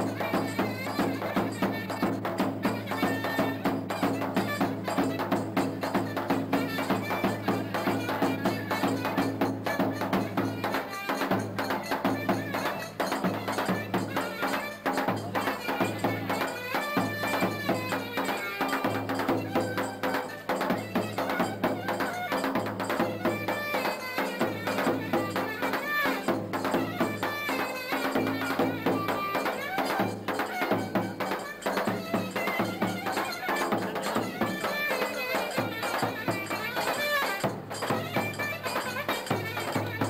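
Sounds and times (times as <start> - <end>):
drum beating dance rhythm: 0.0 - 40.0.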